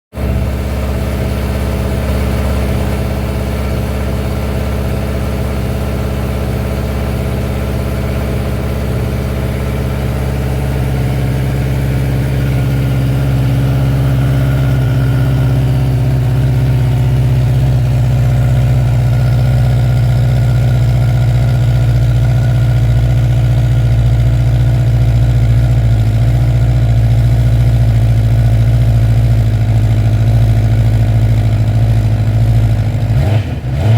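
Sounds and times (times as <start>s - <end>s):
motorcycle engine idling: 0.2s - 33.2s.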